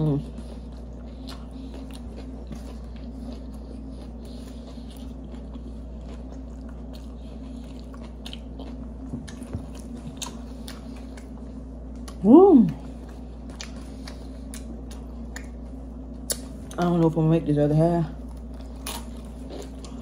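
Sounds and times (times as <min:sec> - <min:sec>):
people chewing: 0:00.0 - 0:17.2, 0:18.2 - 0:20.0
steady low hum: 0:00.0 - 0:20.0.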